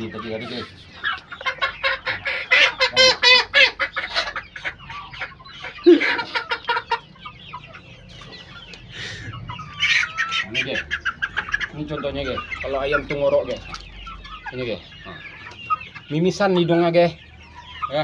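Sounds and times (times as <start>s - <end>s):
chickens clucking and squawking: 0.0s - 18.0s.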